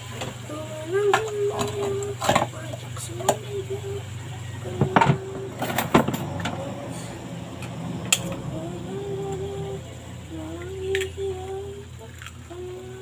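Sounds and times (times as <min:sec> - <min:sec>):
steady low hum: 0:00.0 - 0:13.0
faint wavering tone: 0:00.5 - 0:11.8.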